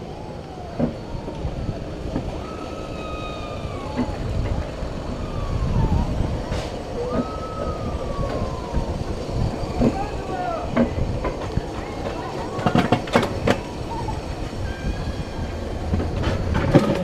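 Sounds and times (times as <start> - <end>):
wheels rumbling on metal rails: 0.0 - 17.0
sled squealing on track: 0.1 - 17.0.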